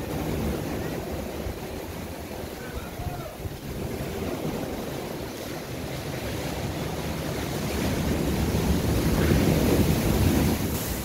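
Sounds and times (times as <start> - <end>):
ocean wave breaking on beach: 0.0 - 11.0
wind buffeting microphone: 0.0 - 11.0.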